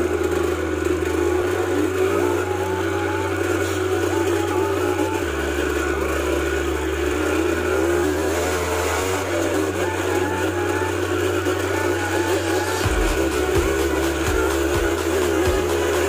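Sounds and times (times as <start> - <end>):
background music with deep bass: 0.0 - 16.0
dirt bike engine revving: 0.0 - 16.0.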